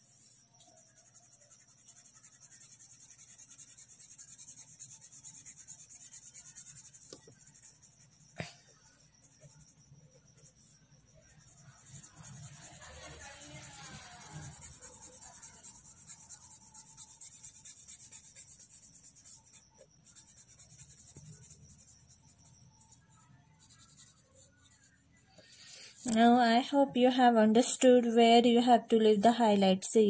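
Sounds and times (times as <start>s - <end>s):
crayon rubbing on paper: 0.1s - 8.3s, 9.2s - 26.2s.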